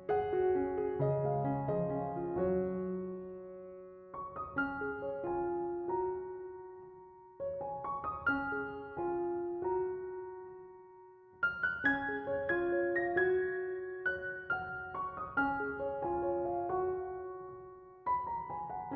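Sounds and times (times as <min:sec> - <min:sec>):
soft slow piano: 0:00.0 - 0:18.9.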